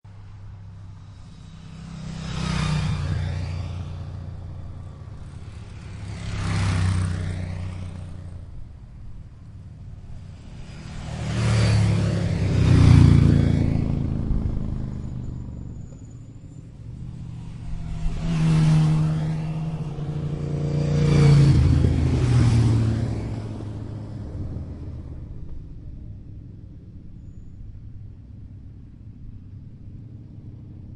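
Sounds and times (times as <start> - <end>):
motorcycles passing by: 0.1 - 30.9.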